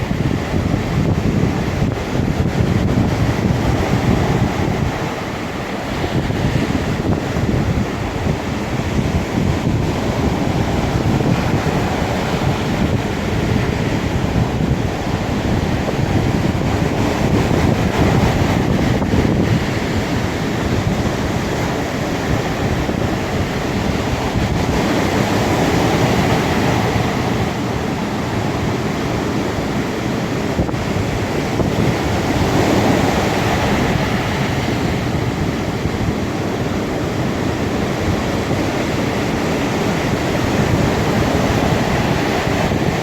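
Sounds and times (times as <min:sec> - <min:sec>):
sea waves breaking: 0:00.0 - 0:43.0
wind buffeting microphone: 0:00.0 - 0:43.0.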